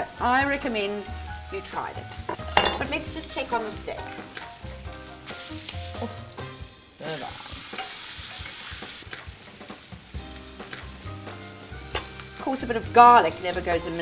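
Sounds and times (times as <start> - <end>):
steak sizzling in a skillet: 0.0 - 14.0.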